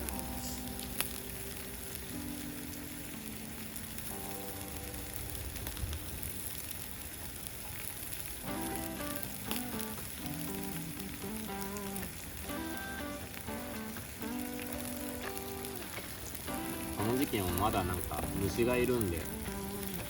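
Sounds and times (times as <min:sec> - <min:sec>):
simple background melody: 0:00.0 - 0:05.8, 0:08.4 - 0:20.0
meat sizzling on a hot plate: 0:00.0 - 0:20.0.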